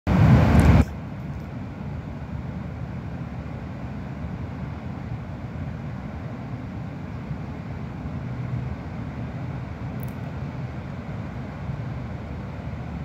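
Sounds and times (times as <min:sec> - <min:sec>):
steady low rumble: 0:00.1 - 0:13.0.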